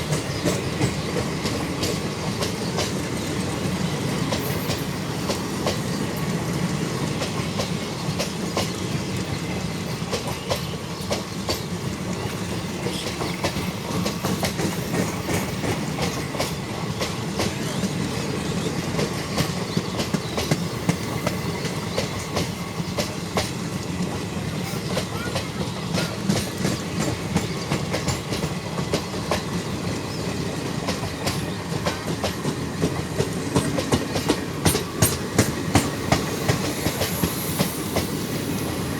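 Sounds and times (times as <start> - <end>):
wheels clicking over rail joints: 0.0 - 38.2
train wheels rumbling on rails: 0.0 - 38.9.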